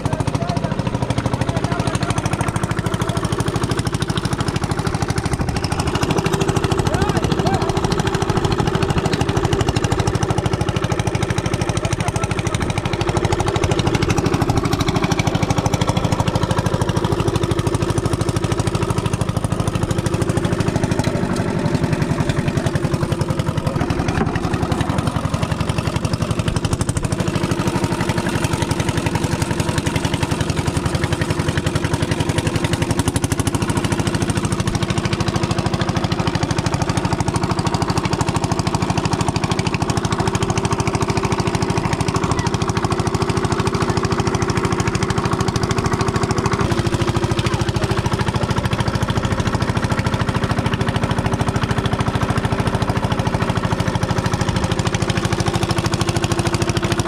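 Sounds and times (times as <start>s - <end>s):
boat inboard engine running: 0.0s - 57.0s.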